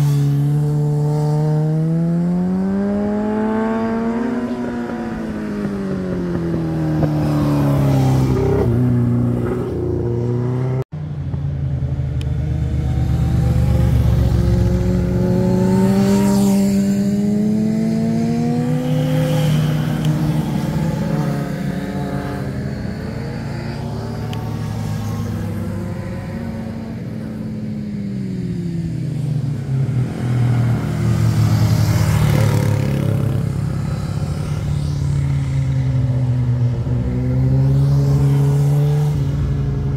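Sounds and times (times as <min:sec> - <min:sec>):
motorcycle engines passing: 0:00.0 - 0:39.9.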